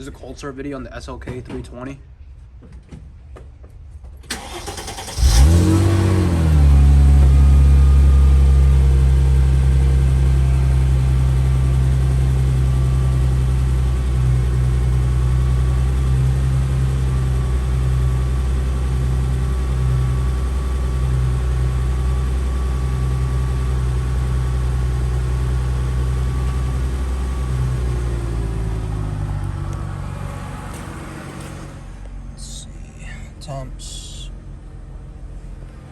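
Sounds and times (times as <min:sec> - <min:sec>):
car engine revving and idling: 0:04.3 - 0:33.4.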